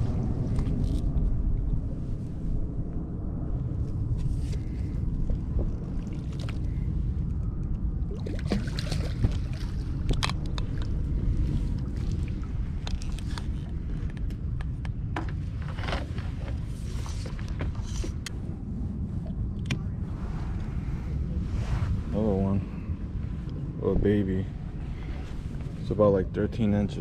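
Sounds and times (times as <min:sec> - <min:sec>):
water splashing and sloshing: 0:00.0 - 0:22.2
wind rumble on microphone: 0:00.0 - 0:27.0.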